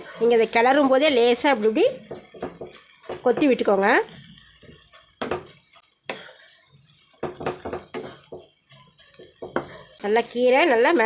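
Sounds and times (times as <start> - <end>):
wooden spatula scraping a pan: 0.0 - 11.0.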